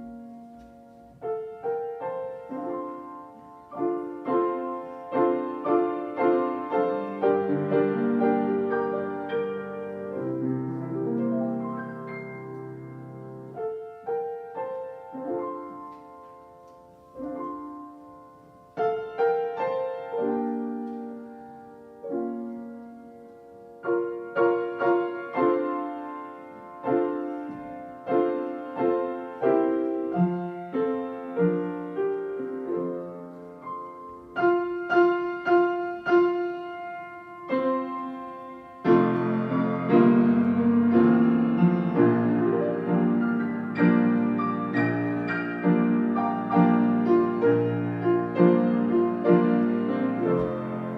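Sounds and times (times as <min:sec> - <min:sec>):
slow solo piano piece: 0:00.0 - 0:50.9.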